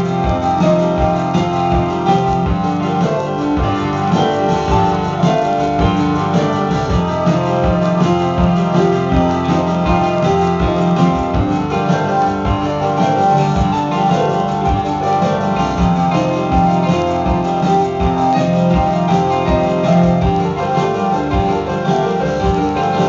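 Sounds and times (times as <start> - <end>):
drums: 0.0 - 23.0
electric guitar: 0.0 - 23.0
keyboards: 0.0 - 23.0.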